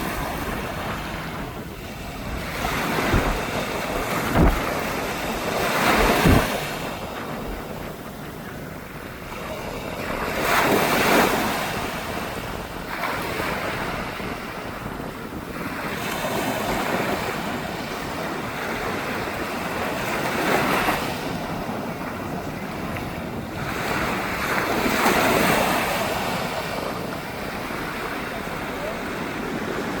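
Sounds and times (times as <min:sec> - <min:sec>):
waves crashing on beach: 0:00.0 - 0:30.0
wind buffeting microphone: 0:00.0 - 0:30.0.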